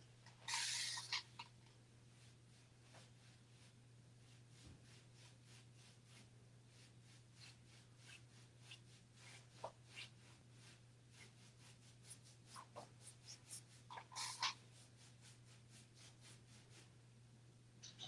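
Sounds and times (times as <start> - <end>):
paintbrush rubbing on wood: 0.4 - 1.5, 2.1 - 17.0.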